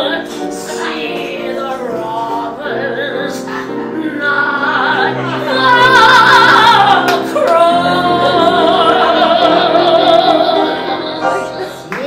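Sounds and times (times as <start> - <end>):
piano accompaniment: 0.0 - 12.0
woman singing with vibrato: 0.0 - 12.0.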